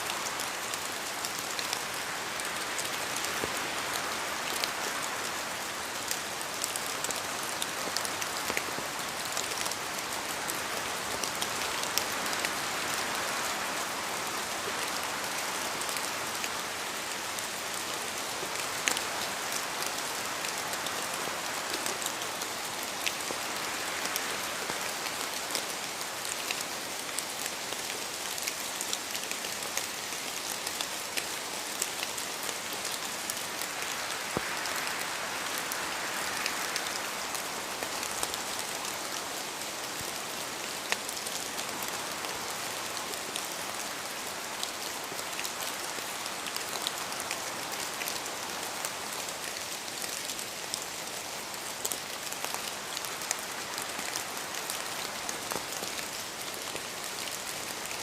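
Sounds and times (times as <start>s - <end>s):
rain hissing in a forest: 0.0s - 58.0s.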